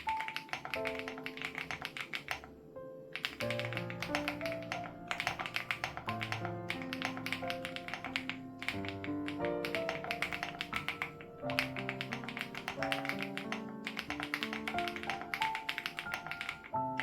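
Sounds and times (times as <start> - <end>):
background music: 0.0 - 17.0
mechanical keyboard typing: 0.0 - 17.0.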